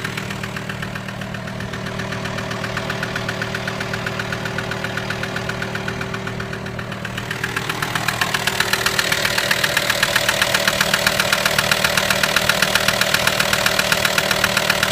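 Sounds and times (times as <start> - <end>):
diesel engine idling with knocking: 0.0 - 14.9.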